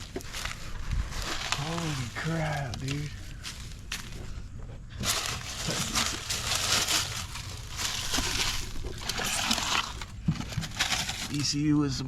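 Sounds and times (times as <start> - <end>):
dry nest material crunching: 0.0 - 12.0.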